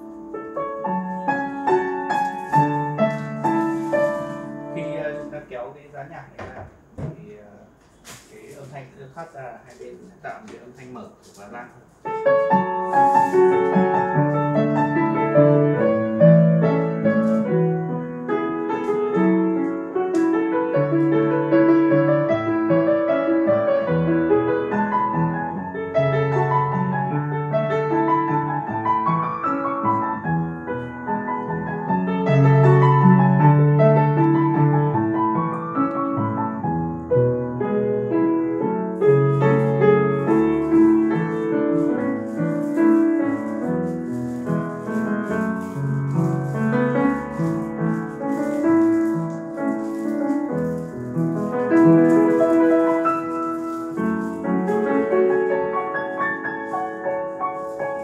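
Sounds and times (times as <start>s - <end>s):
upright piano melody: 0.0s - 58.0s.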